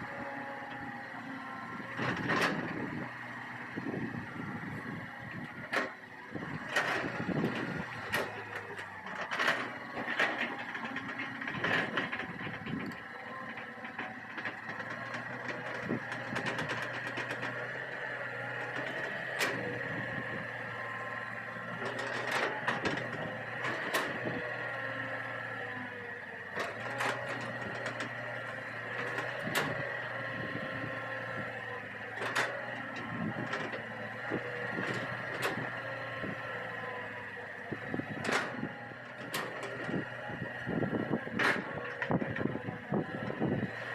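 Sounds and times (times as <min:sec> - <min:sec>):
excavator diesel engine whining: 0:00.0 - 0:43.9.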